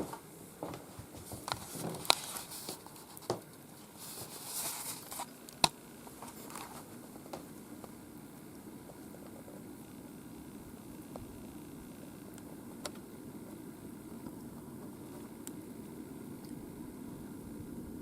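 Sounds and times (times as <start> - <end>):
faint rustling and crinkling: 0.0 - 10.1, 11.0 - 16.6.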